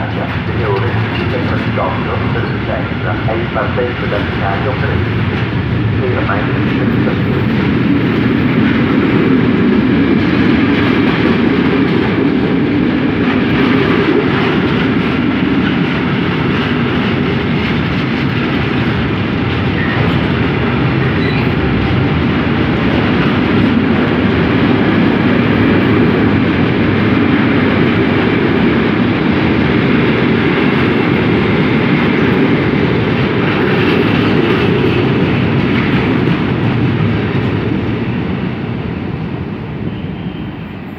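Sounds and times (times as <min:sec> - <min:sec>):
train wheels on rail: 0:00.0 - 0:40.9.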